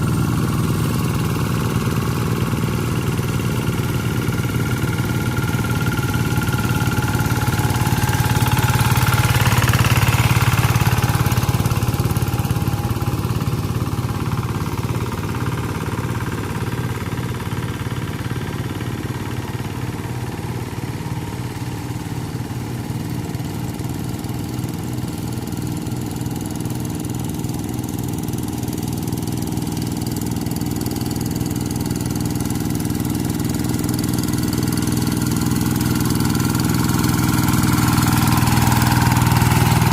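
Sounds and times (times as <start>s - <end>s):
diesel hand tractor engine running: 0.0s - 39.9s.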